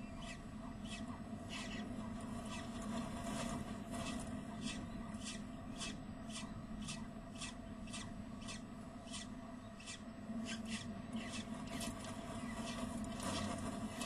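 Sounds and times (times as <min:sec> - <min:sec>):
low electrical hum: 0:00.0 - 0:14.0
bird scraping on gravel: 0:00.3 - 0:14.0.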